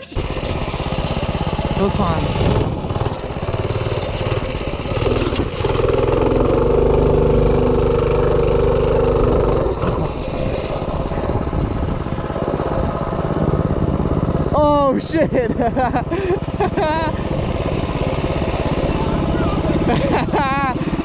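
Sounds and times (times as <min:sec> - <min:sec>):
minibike engine running: 0:00.0 - 0:21.0.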